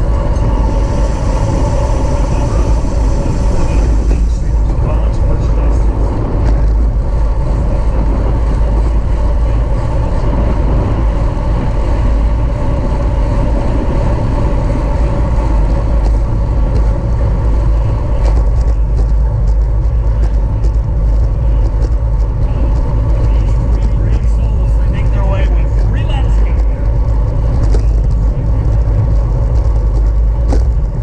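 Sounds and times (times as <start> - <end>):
tyre and drivetrain noise: 0.0 - 31.0
wind rushing over microphone: 0.0 - 31.0.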